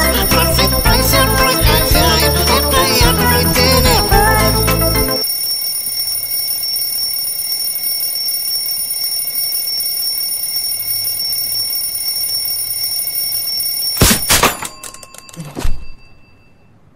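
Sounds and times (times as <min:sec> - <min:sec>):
alarm ringing: 0:00.0 - 0:16.9.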